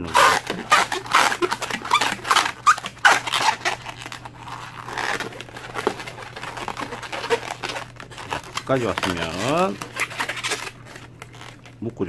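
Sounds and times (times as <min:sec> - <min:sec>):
balloon squeaking and rubbing: 0:00.0 - 0:11.8.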